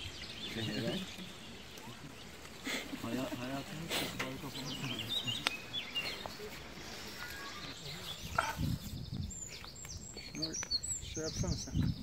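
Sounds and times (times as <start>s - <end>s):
small birds chirping: 0.0s - 12.0s
people talking low: 0.2s - 12.0s.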